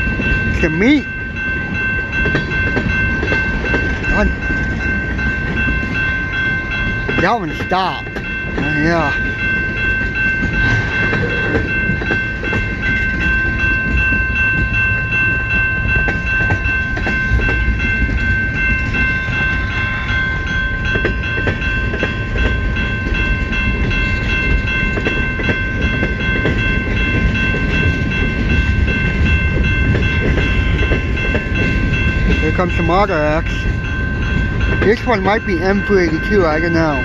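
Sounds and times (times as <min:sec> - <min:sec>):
train cars rumbling past: 0:00.0 - 0:37.0.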